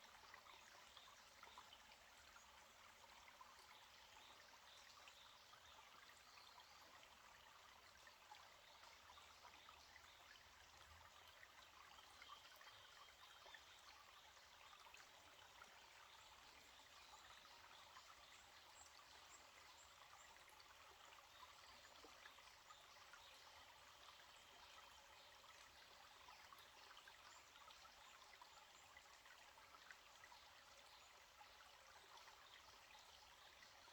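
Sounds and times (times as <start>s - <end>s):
stream trickling: 0.0s - 33.9s.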